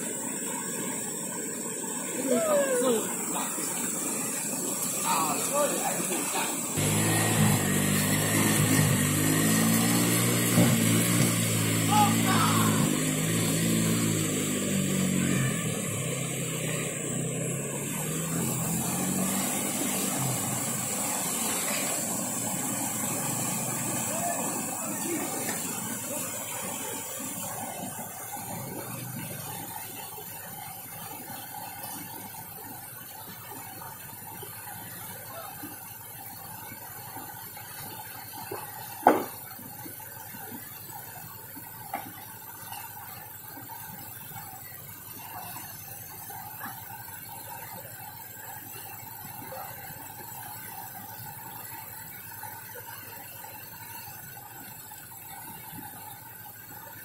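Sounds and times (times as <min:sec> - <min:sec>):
river flowing over rocks: 0:00.0 - 0:57.0
motorcycle engine under load: 0:06.3 - 0:57.0.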